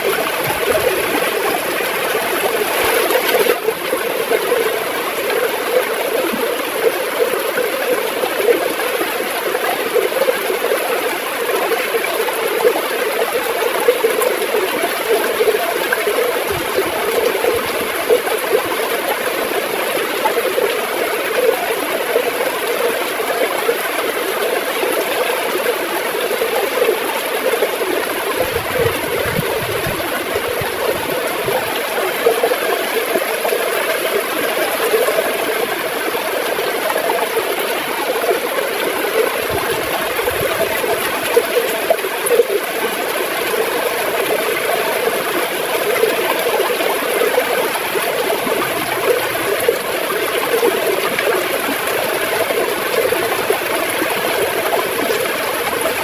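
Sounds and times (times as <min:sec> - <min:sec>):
river water flowing and gurgling: 0:00.0 - 0:56.0.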